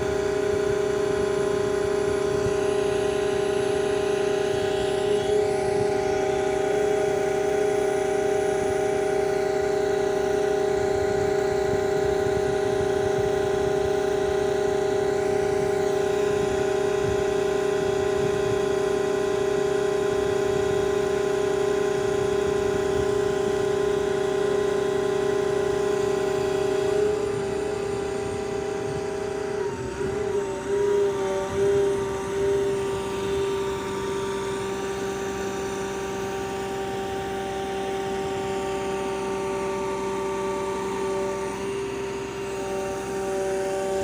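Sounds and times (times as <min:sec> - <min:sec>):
concrete pump hum and whine: 0:00.0 - 0:44.0.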